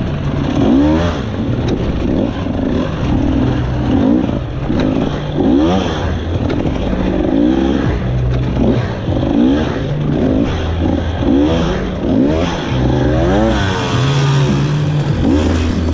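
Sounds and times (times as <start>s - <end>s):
dirt bike engine revving: 0.0s - 15.9s.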